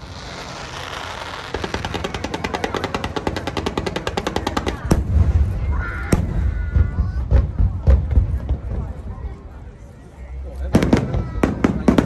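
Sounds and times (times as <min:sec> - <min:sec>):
firecrackers popping: 0:00.0 - 0:08.9, 0:10.6 - 0:12.0.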